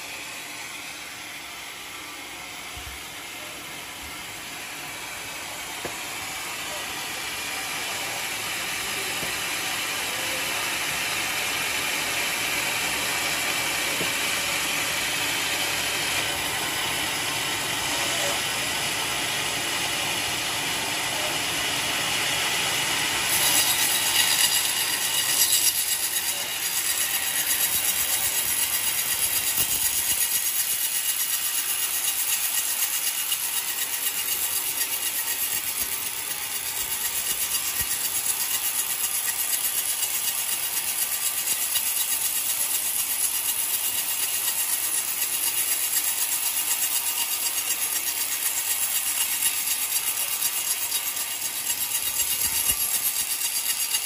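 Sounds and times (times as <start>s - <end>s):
band saw cutting log: 2.7s - 54.0s.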